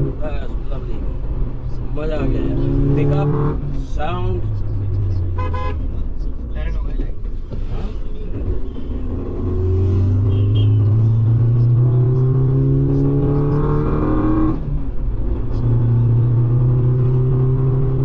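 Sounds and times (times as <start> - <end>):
car engine accelerating hard: 0.0 - 5.3, 7.9 - 18.0.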